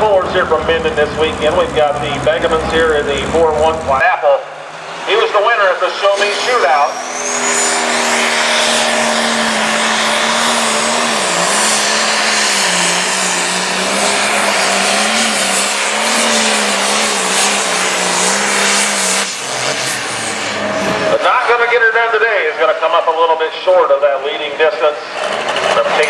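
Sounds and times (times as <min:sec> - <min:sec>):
diesel tractor engine at full throttle: 0:00.0 - 0:26.0.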